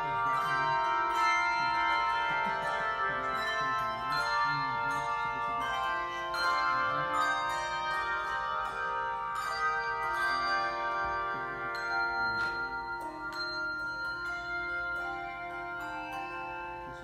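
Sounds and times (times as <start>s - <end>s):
handbell choir ringing: 0.0s - 17.0s.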